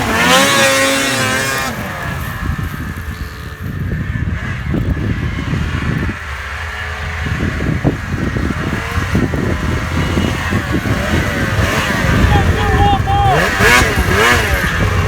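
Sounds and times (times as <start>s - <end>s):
snowmobile engine running: 0.0s - 15.0s
wind noise: 0.0s - 15.0s.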